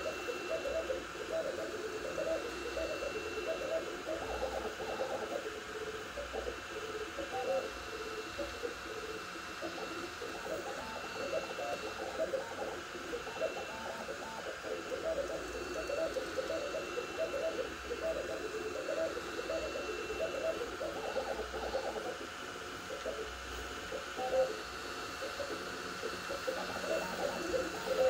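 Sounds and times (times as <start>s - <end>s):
stepper motors whining: 0.0s - 28.0s.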